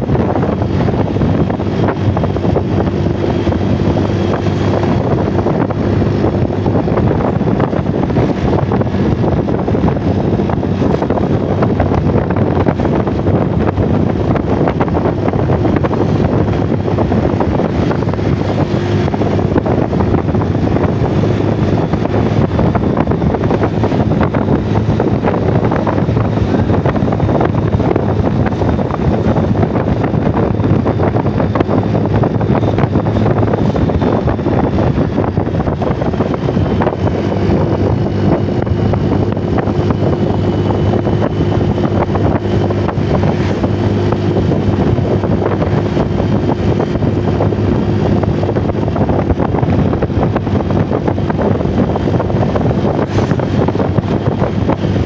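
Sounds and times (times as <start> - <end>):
low engine hum: 0.0 - 55.0
wind buffeting microphone: 0.0 - 55.0.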